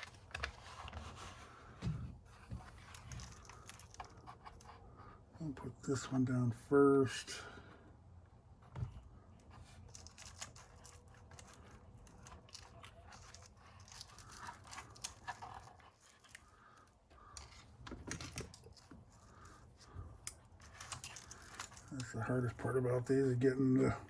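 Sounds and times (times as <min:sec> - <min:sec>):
handling clicks and rustles: 0:00.0 - 0:06.3, 0:08.6 - 0:24.0.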